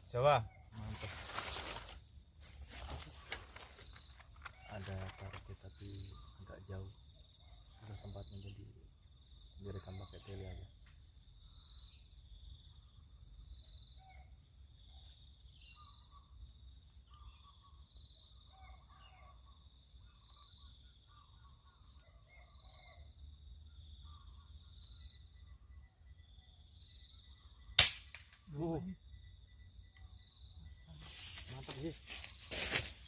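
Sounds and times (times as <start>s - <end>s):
soft bird calls: 0.0s - 33.0s.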